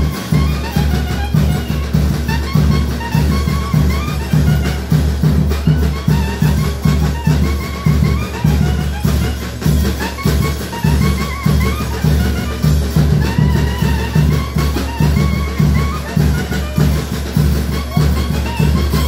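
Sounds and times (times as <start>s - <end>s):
festive dance music: 0.0s - 19.0s.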